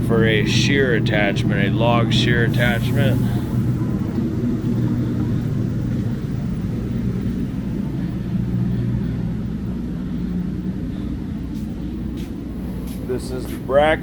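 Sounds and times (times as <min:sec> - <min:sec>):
large engine idling: 0:00.0 - 0:14.0.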